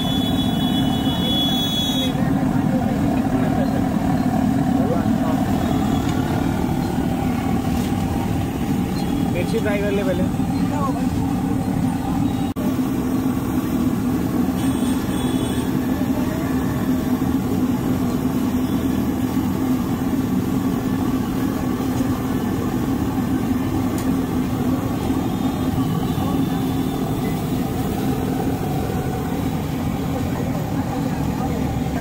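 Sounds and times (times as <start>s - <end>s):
idling engines: 0.0s - 32.0s
road traffic drone: 0.0s - 32.0s.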